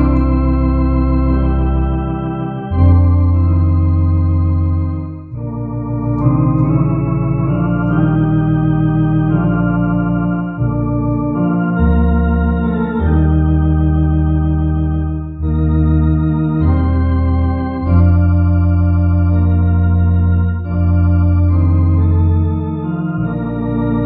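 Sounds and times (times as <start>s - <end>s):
electronic organ playing a hymn: 0.0s - 24.0s.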